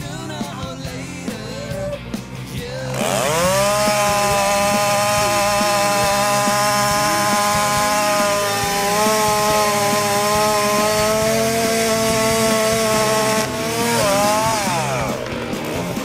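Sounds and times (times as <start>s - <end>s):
chainsaw cutting at full throttle: 0.0s - 16.0s.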